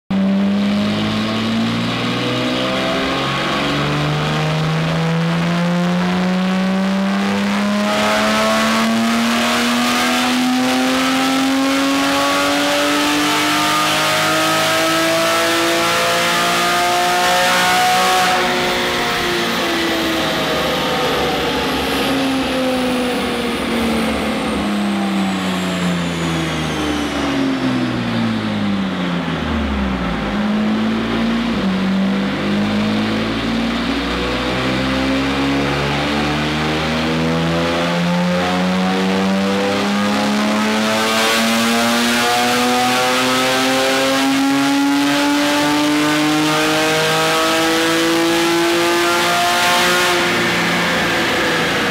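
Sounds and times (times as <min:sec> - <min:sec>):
car engine revving: 0:00.1 - 0:51.9.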